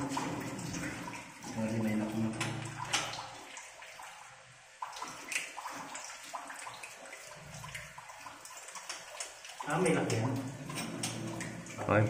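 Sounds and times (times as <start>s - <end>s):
water splashing and lapping: 0.0s - 12.0s.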